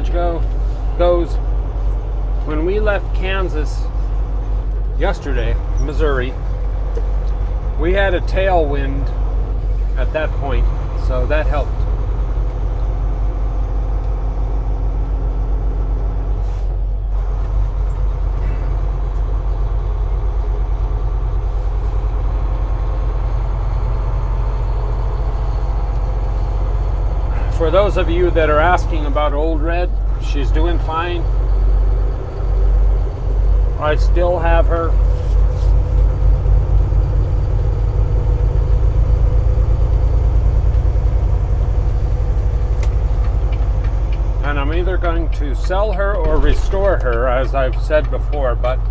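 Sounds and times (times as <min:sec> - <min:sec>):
road noise: 0:00.0 - 0:48.9
truck diesel engine drone: 0:00.0 - 0:48.9.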